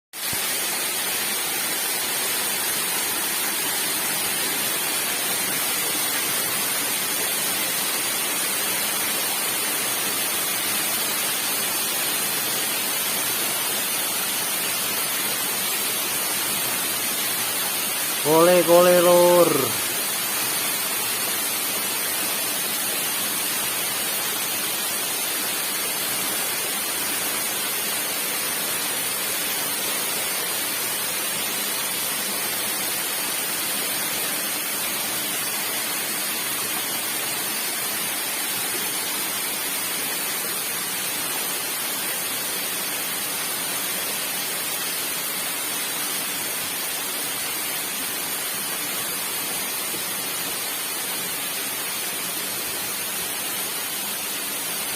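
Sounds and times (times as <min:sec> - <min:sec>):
waterfall rushing: 0:00.2 - 0:54.9.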